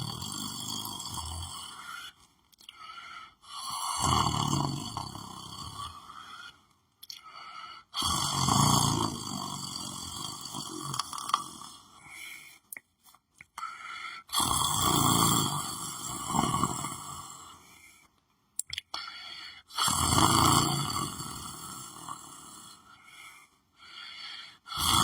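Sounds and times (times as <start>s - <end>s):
person snoring: 0.0s - 6.6s, 7.2s - 12.6s, 13.6s - 18.0s, 18.9s - 25.0s.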